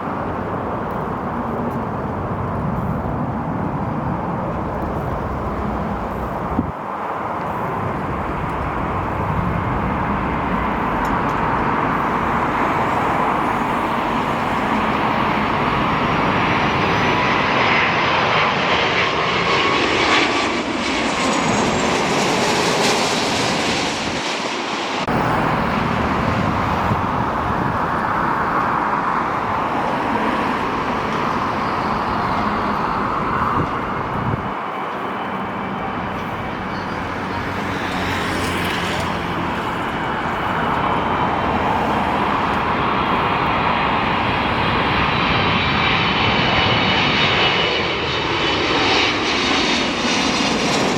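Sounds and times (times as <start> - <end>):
wind buffeting microphone: 0.0 - 19.6, 25.0 - 47.4
jet airliner engine roar: 0.0 - 50.9
turbine whine: 0.0 - 50.9.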